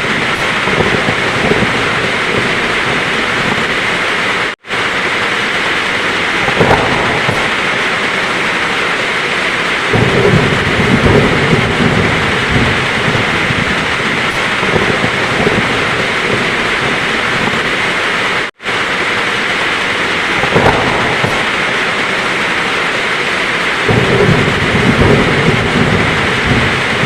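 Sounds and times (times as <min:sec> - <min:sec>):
heavy rain falling: 0:00.0 - 0:27.0
low thunder rumbling: 0:00.0 - 0:27.0.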